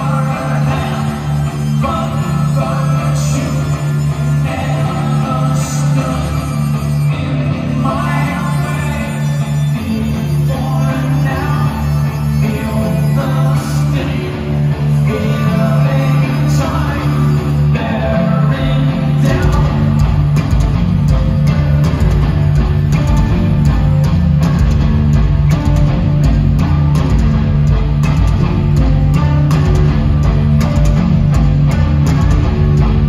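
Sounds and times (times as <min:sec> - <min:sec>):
metal band playing live: 0:00.0 - 0:33.0.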